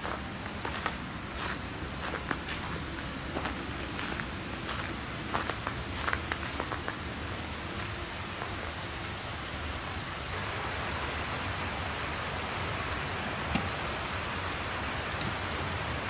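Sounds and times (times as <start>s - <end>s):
river water rushing: 0.2s - 16.0s.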